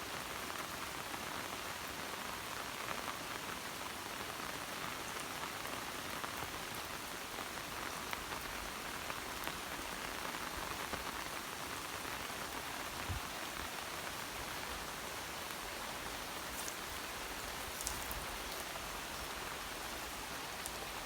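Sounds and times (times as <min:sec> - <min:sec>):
steady rain falling: 0:00.0 - 0:21.0
raindrops ticking on a surface: 0:00.3 - 0:21.0.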